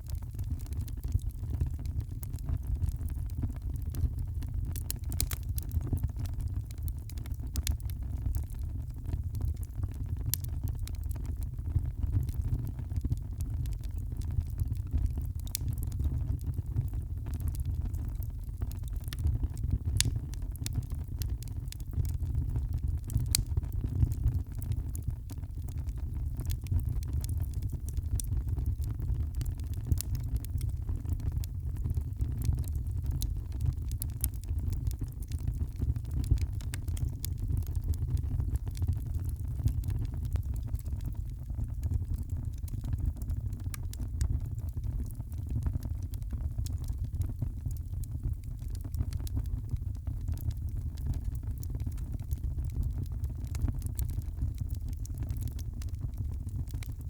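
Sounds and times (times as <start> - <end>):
low rumble of flames: 0.0 - 57.0
wood crackling and popping: 0.0 - 57.0.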